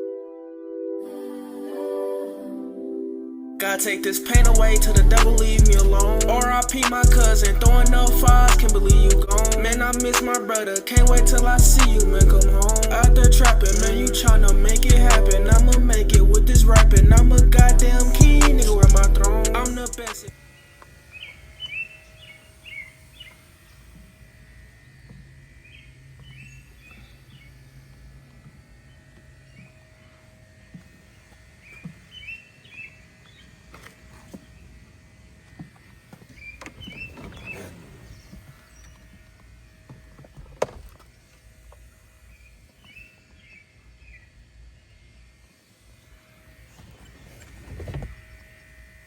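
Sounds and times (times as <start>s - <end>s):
birds chirping: 3.9s - 24.2s, 24.8s - 34.9s, 35.5s - 45.3s
steady low hum: 4.4s - 10.3s, 10.9s - 45.5s.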